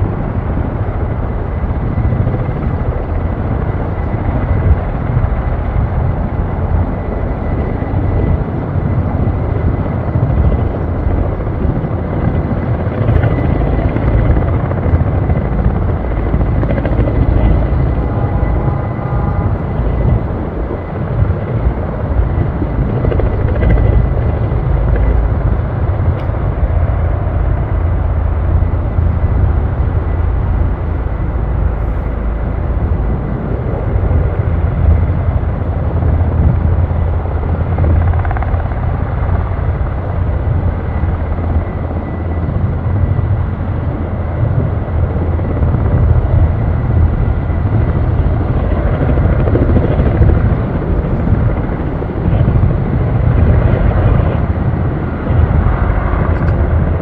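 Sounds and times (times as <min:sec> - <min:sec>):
helicopter rotor noise: 0:00.0 - 0:57.0.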